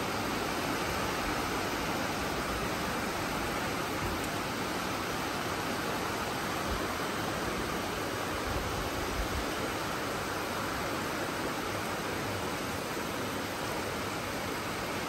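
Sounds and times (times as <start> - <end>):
steady rainfall hiss: 0.0 - 15.0.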